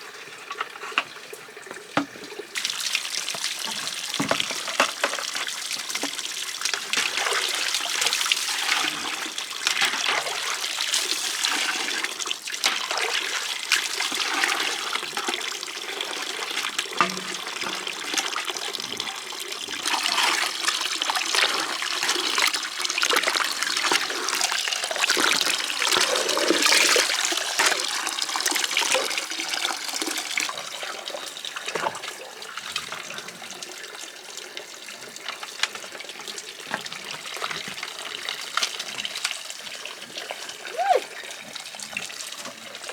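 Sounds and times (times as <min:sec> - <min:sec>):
water running and splashing: 0:00.0 - 0:42.9.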